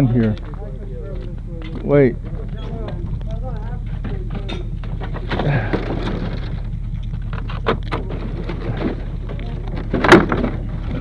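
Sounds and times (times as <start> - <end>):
steady low hum: 0.0 - 11.0
clattering and knocks of machinery: 1.2 - 11.0.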